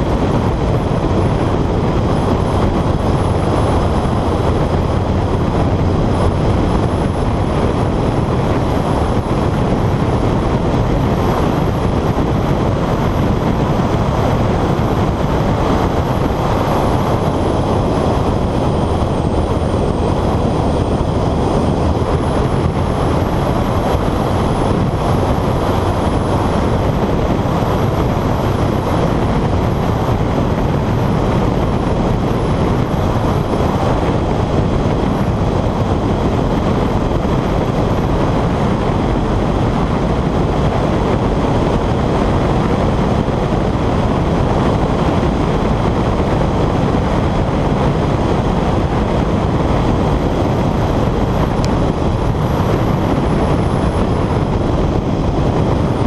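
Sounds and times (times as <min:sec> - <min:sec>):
car engine running: 0:00.0 - 0:56.0
wind and road noise: 0:00.0 - 0:56.0.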